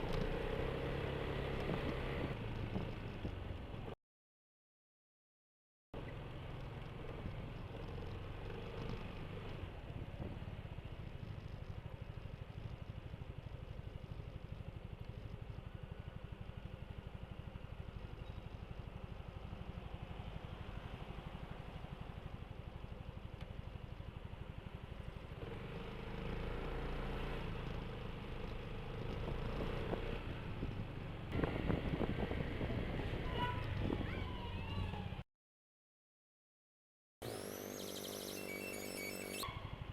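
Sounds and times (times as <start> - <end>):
scooter engine droning: 0.0 - 3.9, 6.0 - 35.2, 37.2 - 39.9
road and wind noise: 0.0 - 4.0, 6.0 - 35.2.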